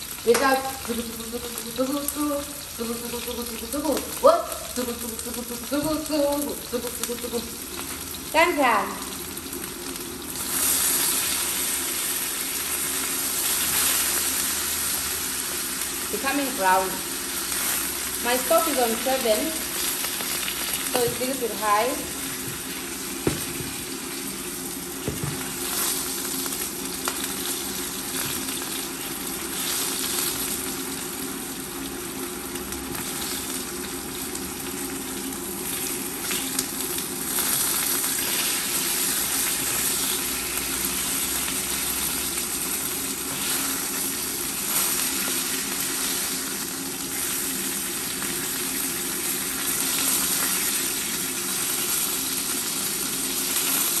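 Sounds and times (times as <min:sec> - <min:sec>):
chicken sizzling in hot oil: 0:00.0 - 0:54.0.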